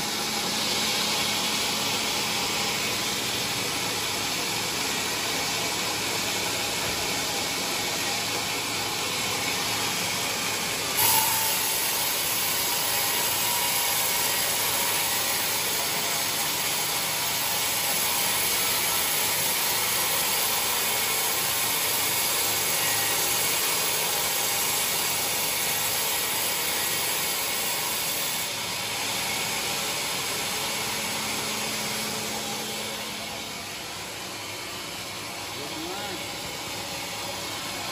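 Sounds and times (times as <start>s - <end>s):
band sawmill cutting log: 0.0s - 37.9s.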